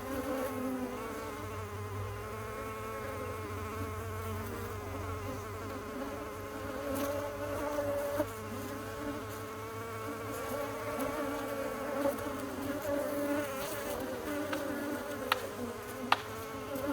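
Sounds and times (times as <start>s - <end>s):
bees buzzing: 0.0s - 16.9s.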